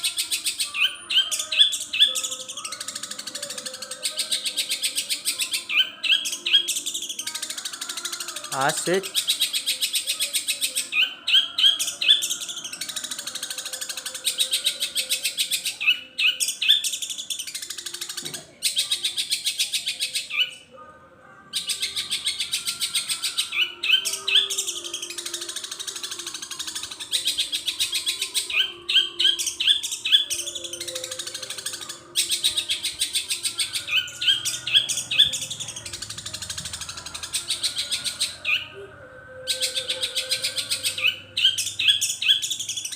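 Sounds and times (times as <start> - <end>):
bird singing fast chattering song: 0.0 - 20.6, 21.6 - 42.9.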